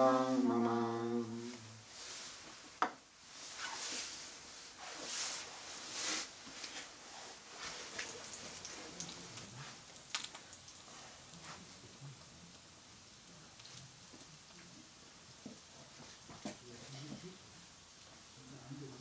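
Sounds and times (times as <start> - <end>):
small fire crackling: 1.5 - 19.0
fire hissing: 1.8 - 19.0.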